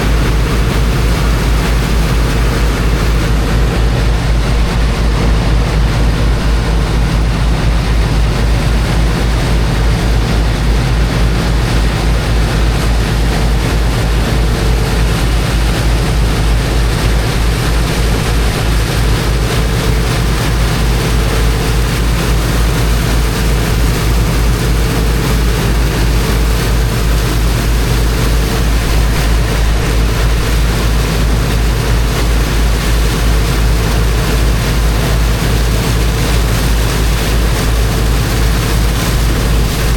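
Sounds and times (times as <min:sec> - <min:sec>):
water jet rushing: 0:00.0 - 0:39.9
water pump engine throbbing: 0:00.0 - 0:39.9.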